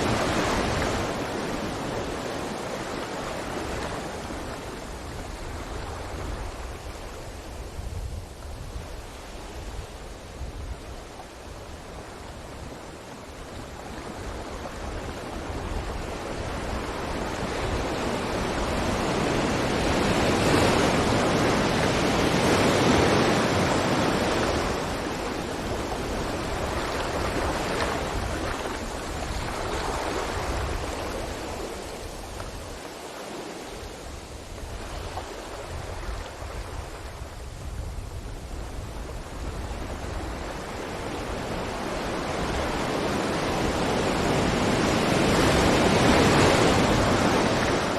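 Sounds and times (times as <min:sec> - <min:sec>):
sea waves breaking on a beach: 0:00.0 - 0:47.9.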